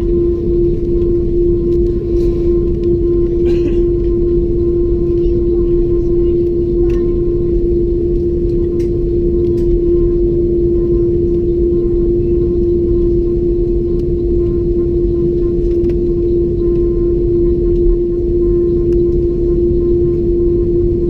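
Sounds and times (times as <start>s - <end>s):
jet engine cabin rumble: 0.0s - 21.0s
steady mid-pitched hum: 0.0s - 21.0s.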